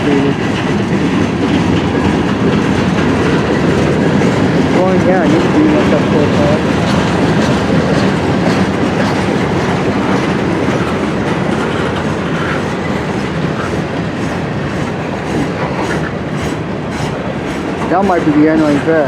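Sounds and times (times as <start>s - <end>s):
freight train wheels over rail joints: 0.0s - 19.0s.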